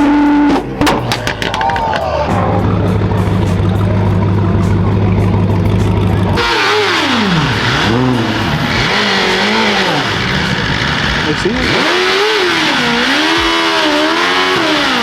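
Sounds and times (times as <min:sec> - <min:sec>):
car engine revving: 0:00.0 - 0:15.0
steady low drone: 0:00.0 - 0:15.0.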